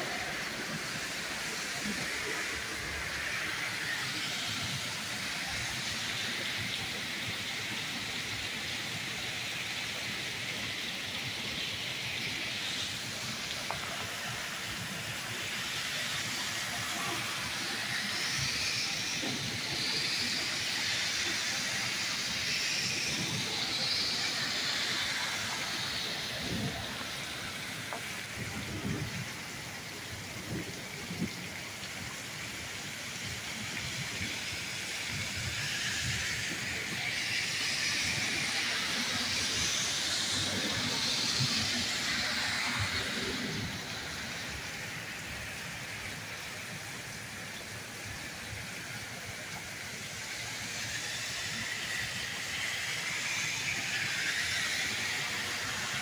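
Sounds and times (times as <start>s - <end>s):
heavy rain pouring: 0.0s - 56.0s
tyres hissing through water: 0.0s - 56.0s.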